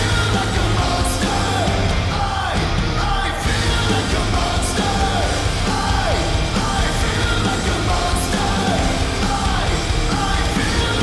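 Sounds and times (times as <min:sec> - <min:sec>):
hard rock song: 0:00.0 - 0:11.0
shouted vocals: 0:00.0 - 0:11.0.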